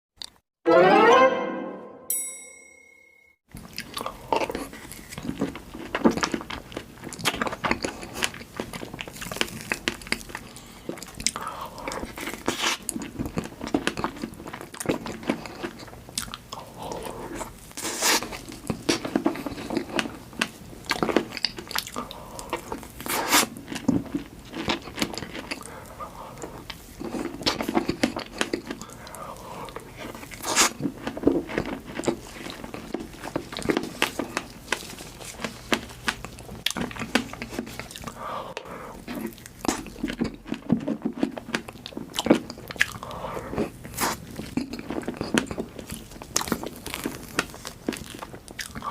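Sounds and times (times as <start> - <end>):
biting and chewing: 3.5 - 48.9.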